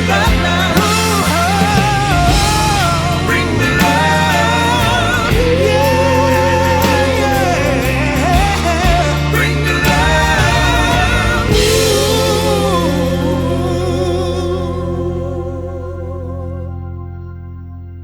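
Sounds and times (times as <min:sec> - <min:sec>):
pop song with vocals: 0:00.0 - 0:17.4.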